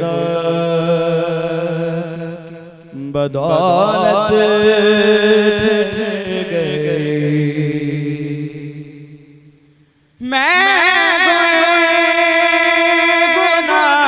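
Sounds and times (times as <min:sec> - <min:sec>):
man chanting: 0:00.0 - 0:09.3, 0:10.2 - 0:14.0.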